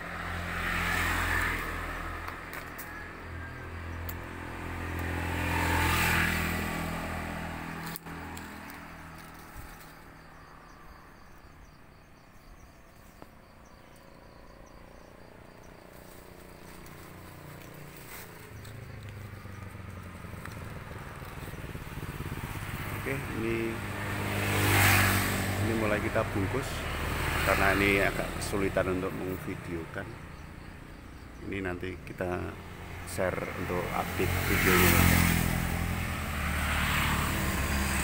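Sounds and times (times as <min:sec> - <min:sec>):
vehicle engine passing: 0:00.0 - 0:11.5, 0:14.1 - 0:38.0.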